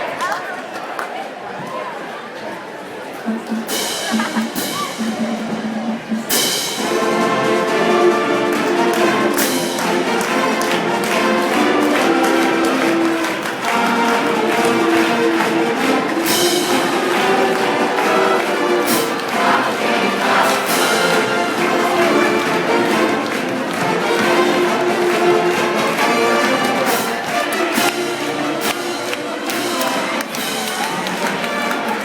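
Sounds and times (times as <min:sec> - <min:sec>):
percussion strikes: 0:03.2 - 0:32.0
brass and strings chords: 0:03.3 - 0:32.0.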